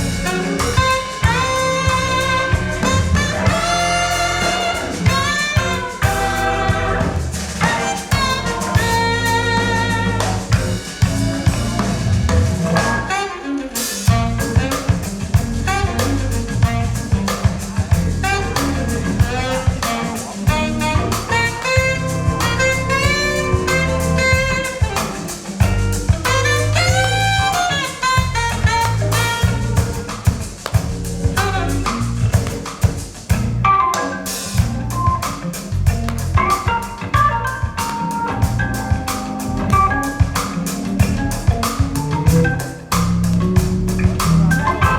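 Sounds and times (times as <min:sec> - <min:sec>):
jazz with saxophone and drums: 0:00.0 - 0:44.9.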